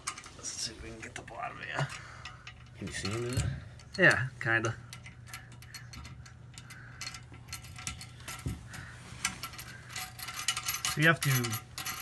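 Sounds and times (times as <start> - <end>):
metal washers and nuts clinking: 0.0 - 12.0.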